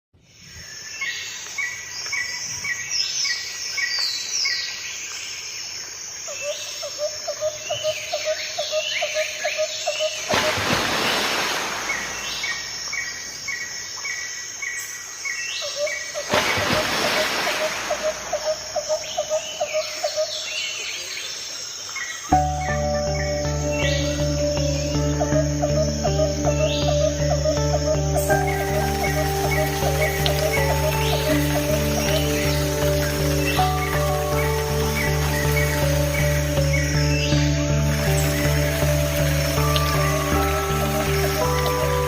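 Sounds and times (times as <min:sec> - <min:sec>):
birds singing and calling: 0:06.2 - 0:42.0.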